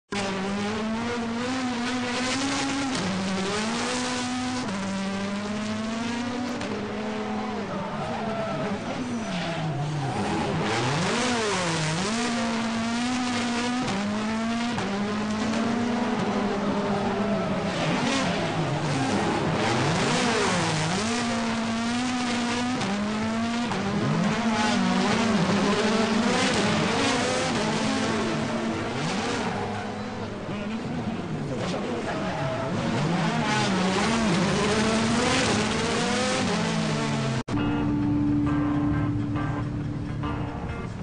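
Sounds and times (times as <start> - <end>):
rally car engine at high revs: 0.1 - 40.2.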